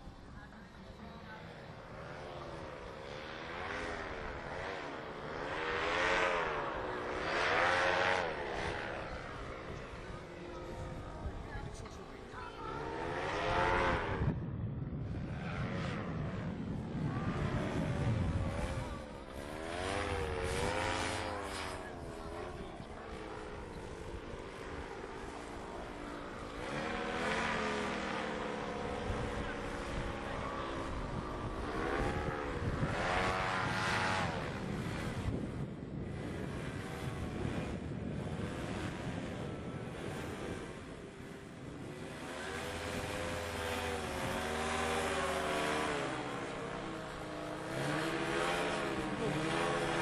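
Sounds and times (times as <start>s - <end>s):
paramotor engine and propeller: 0.0s - 50.0s
wind rumble: 0.0s - 50.0s.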